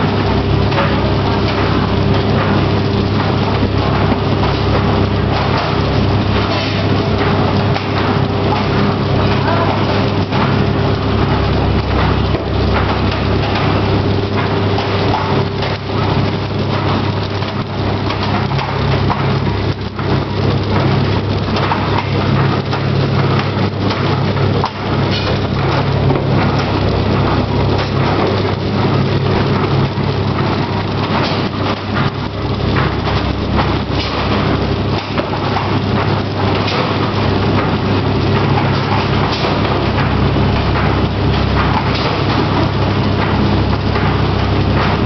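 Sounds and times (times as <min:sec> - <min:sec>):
wrapping machine humming and clattering: 0:00.0 - 0:45.0.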